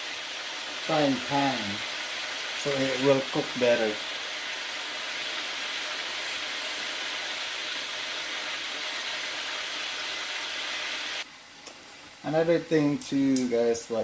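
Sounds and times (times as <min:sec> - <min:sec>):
chicken wings sizzling in oil: 0:00.0 - 0:11.3.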